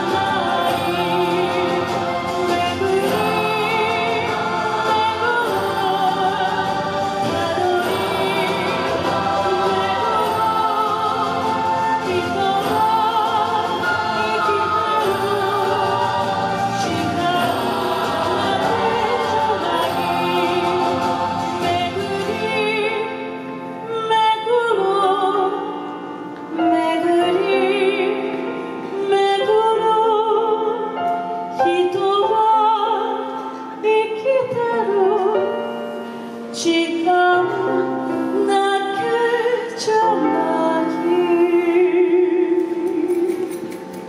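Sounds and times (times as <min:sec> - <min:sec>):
backing music: 0:00.0 - 0:44.0
woman singing into a microphone: 0:00.0 - 0:44.0.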